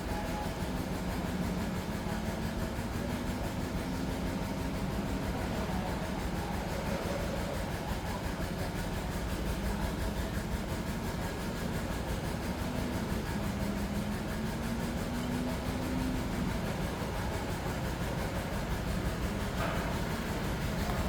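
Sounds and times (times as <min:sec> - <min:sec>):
engine rumble: 0:00.0 - 0:21.0.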